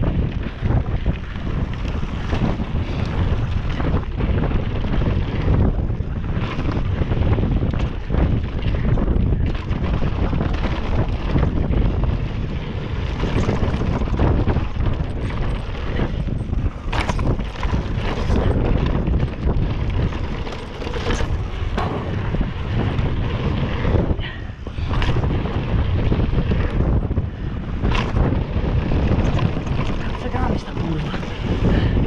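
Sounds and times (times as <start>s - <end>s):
bike knocks and clatters: 0.0s - 32.0s
tyres rumbling on loose dirt: 0.0s - 32.0s
wind buffeting microphone: 0.0s - 32.0s.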